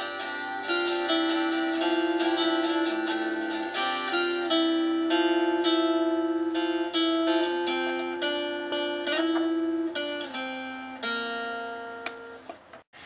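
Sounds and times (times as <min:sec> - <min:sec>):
plucked guitars layered: 0:00.0 - 0:12.4.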